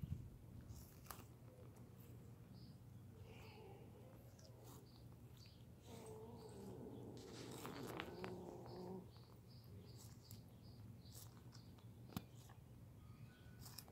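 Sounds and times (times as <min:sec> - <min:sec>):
faint low hum: 0:00.0 - 0:13.9
tortoise chewing cucumber: 0:00.5 - 0:13.9
faint bird chirps: 0:02.5 - 0:13.8.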